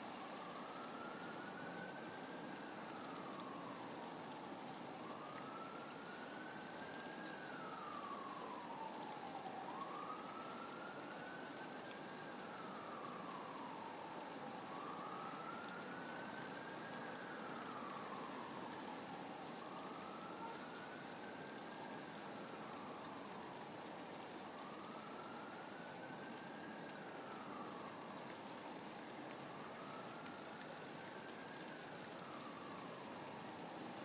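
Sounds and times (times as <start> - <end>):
siren wailing: 0.1 - 4.2, 4.9 - 23.6, 24.4 - 28.2, 29.3 - 33.9.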